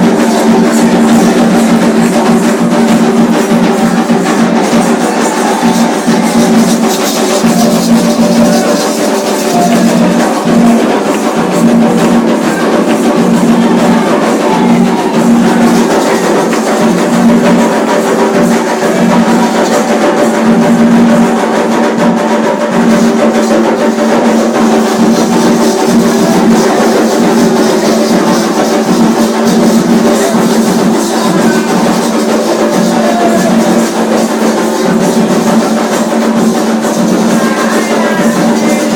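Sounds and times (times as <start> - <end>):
music with drums and percussion: 0.0 - 38.9.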